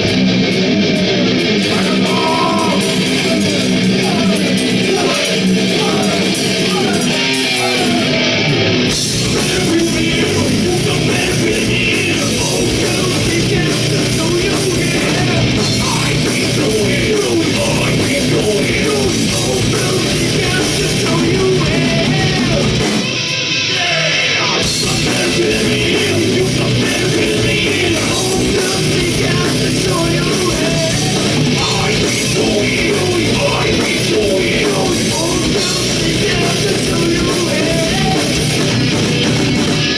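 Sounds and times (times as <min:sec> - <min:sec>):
drum kit: 0:00.0 - 0:39.9
electric guitar: 0:00.0 - 0:39.9
person singing: 0:01.6 - 0:08.4, 0:09.2 - 0:22.8, 0:23.7 - 0:38.6.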